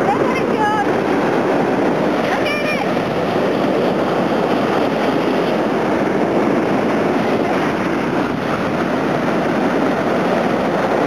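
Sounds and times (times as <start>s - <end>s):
surf breaking on sand: 0.0s - 11.0s.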